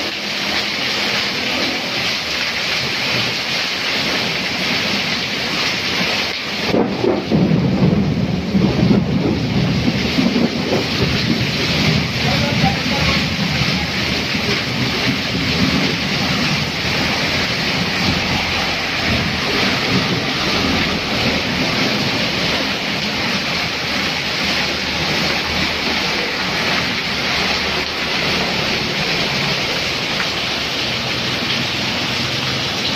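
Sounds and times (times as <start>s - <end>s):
heavy rain on pavement: 0.0s - 32.9s.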